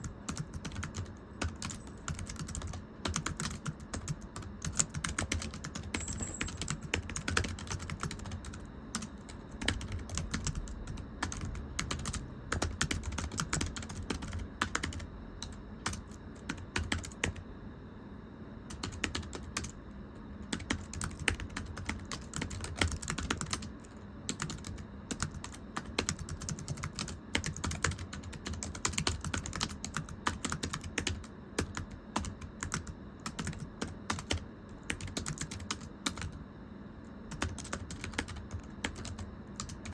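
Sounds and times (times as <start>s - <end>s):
fast typing on thin keyboard: 0.0s - 17.4s, 18.7s - 19.7s, 20.5s - 36.4s, 37.3s - 39.9s.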